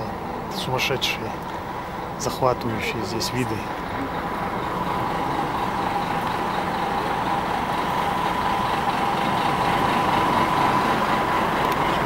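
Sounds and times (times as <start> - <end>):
bus engine rumbling with whine: 0.0 - 12.0.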